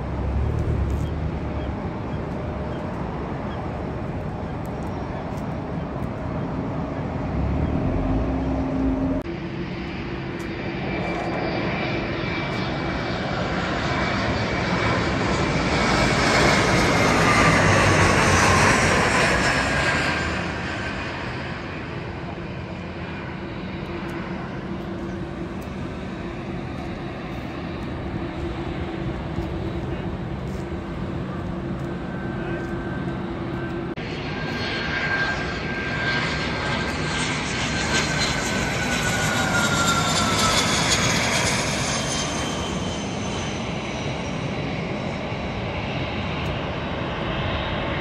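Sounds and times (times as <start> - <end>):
jet airliner flying past: 0.0 - 48.0.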